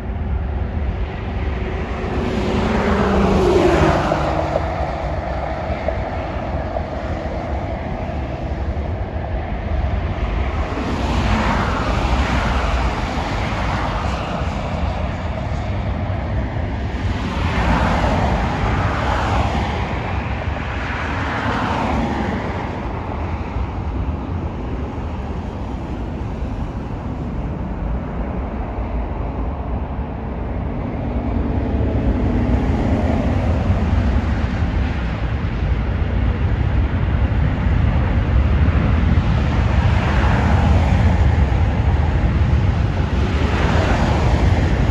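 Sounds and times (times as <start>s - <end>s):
jet airliner engines rumbling: 0.0s - 44.9s.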